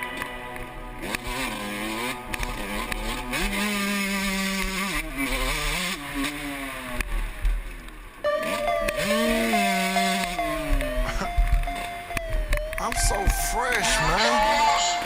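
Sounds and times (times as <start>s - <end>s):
motorbike engine revving: 0.6s - 7.5s, 8.2s - 15.0s.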